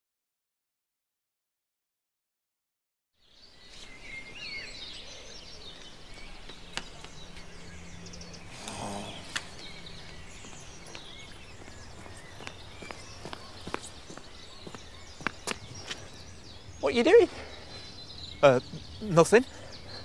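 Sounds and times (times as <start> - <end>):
birds chirping: 3.2 - 20.0.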